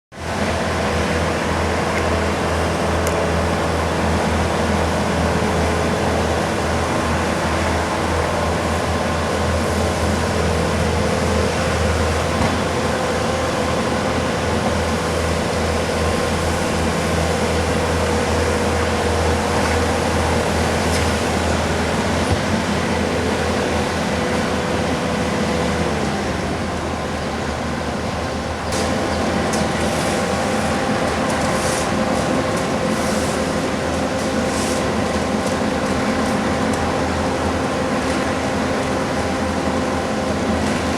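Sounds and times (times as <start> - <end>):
diesel engines droning: 0.2 - 40.9.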